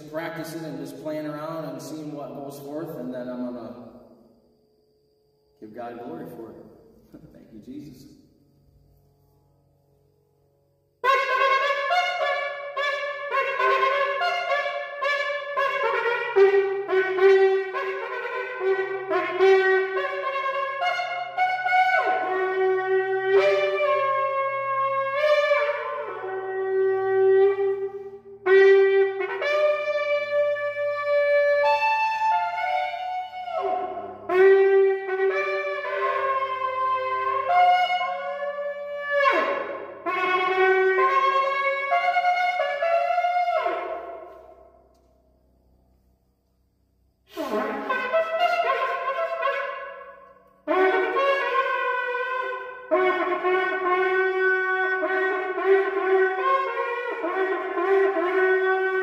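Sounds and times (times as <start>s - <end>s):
shofar blowing: 5.6s - 8.2s, 11.0s - 45.0s, 47.3s - 59.0s.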